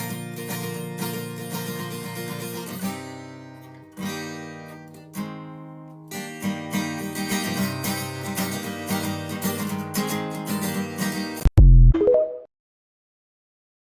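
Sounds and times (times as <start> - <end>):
acoustic guitar strumming: 0.0 - 11.4.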